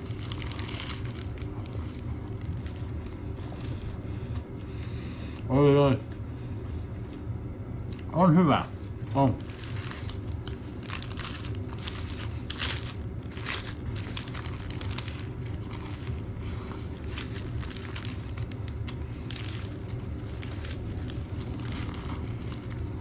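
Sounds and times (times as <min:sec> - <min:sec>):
paper wrapper crinkling: 0:00.0 - 0:04.4, 0:08.8 - 0:23.0
steady low hum: 0:00.0 - 0:23.0.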